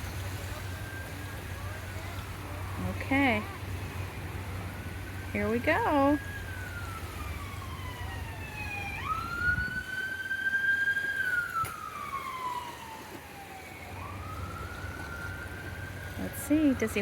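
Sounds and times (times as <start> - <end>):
emergency siren wailing: 0.0 - 17.0
faint traffic rumble: 0.0 - 17.0.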